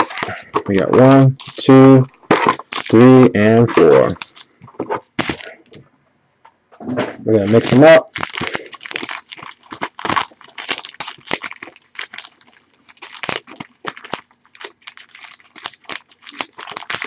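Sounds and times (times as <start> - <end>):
card pack wrappers crinkling: 0.0 - 5.6, 7.4 - 17.0.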